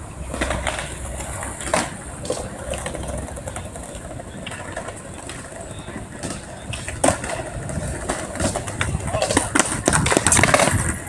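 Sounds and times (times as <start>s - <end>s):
skateboard clacks: 0.0s - 11.0s
skateboard wheels rumbling on concrete: 0.0s - 11.0s.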